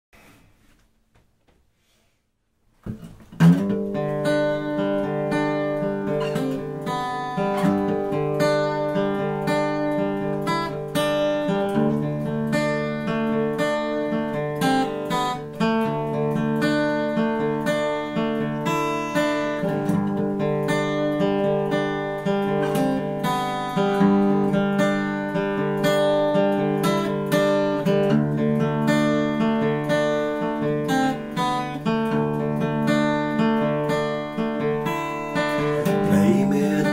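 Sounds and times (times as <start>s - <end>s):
acoustic guitar strumming chords: 2.9s - 36.9s.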